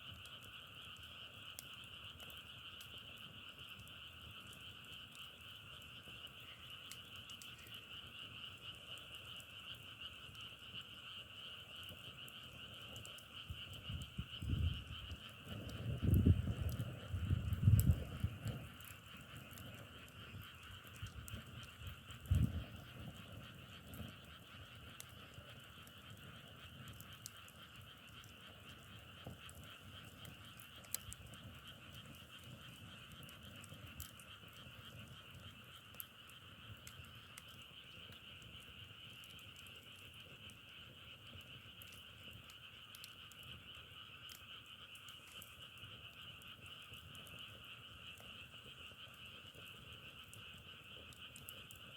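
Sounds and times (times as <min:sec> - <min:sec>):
faint sharp ticks: 0:00.0 - 0:51.9
frogs chorus trilling: 0:00.0 - 0:51.9.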